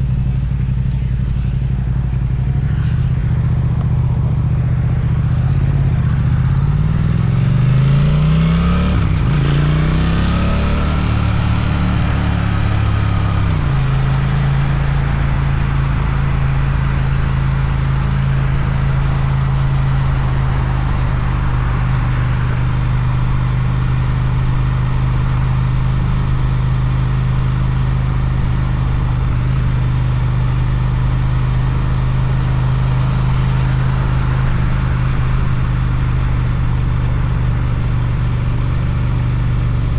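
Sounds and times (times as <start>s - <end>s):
motorcycle accelerating: 0.0s - 39.9s.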